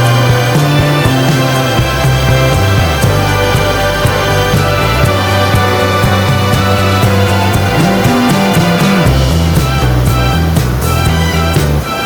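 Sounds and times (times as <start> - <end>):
background music with bass and beat: 0.0 - 12.0.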